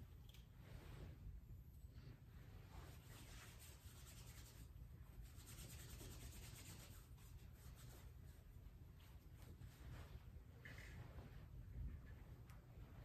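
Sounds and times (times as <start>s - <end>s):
low room hum: 0.0s - 13.0s
soft rustling and rubbing: 0.0s - 13.0s.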